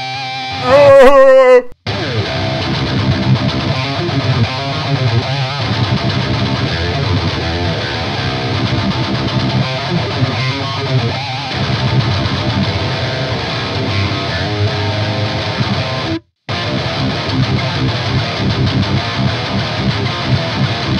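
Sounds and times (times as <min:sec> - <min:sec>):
distorted electric guitar riff: 0:00.0 - 0:20.9.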